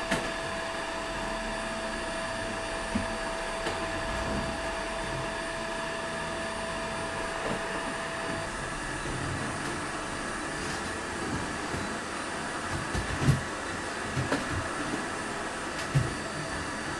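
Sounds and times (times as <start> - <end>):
vacuum cleaner running: 0.0 - 16.9.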